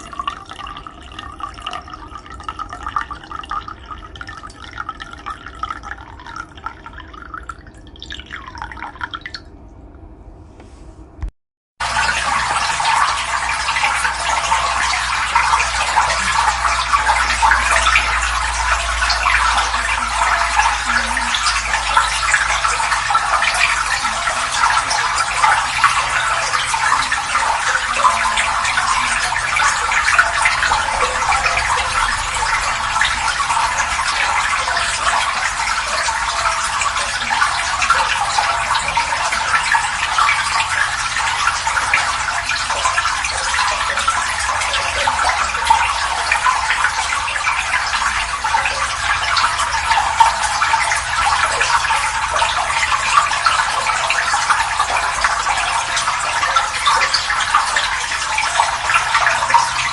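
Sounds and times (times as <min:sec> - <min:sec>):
water pouring and splashing: 0:00.0 - 0:09.6, 0:11.2 - 0:59.9.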